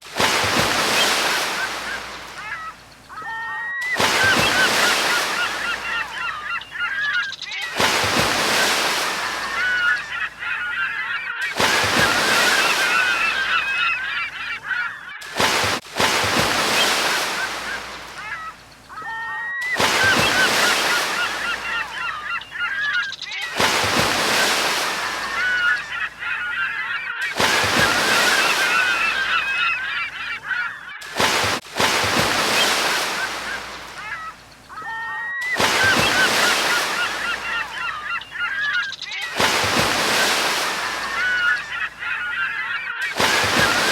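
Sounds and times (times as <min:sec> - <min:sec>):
gulls calling: 0:00.0 - 0:43.9
waves breaking: 0:00.0 - 0:43.9.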